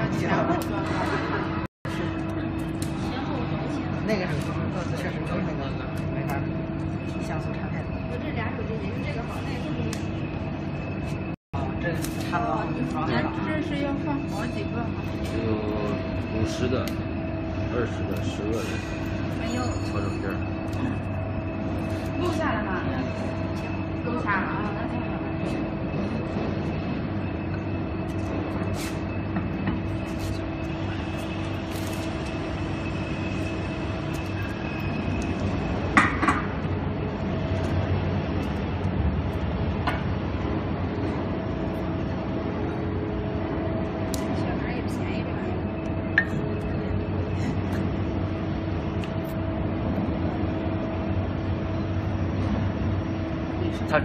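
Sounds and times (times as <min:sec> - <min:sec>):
workshop machinery hum: 0:00.0 - 0:54.0.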